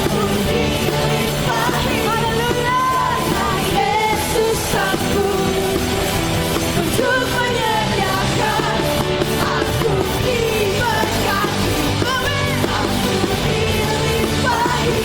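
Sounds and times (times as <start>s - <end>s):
band playing pop-rock song: 0.0s - 15.0s.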